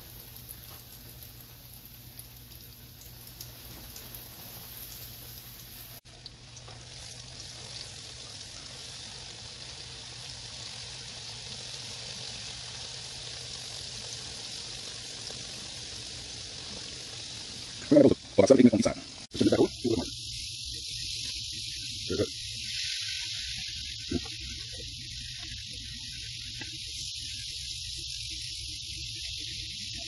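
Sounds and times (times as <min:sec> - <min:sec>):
meat frying in hot oil: 0:00.0 - 0:30.0.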